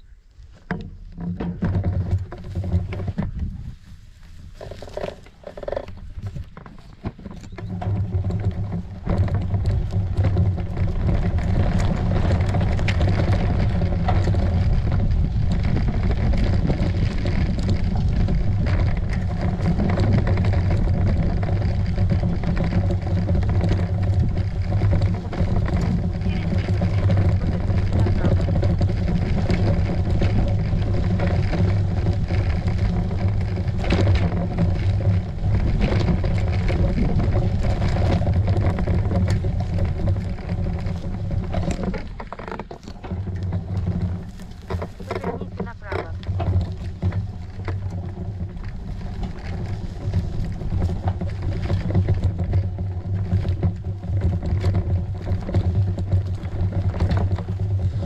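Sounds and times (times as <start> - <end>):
bicycle rolling over dirt track: 0.0 - 58.0
knocks and rattles from bumps: 0.5 - 58.0.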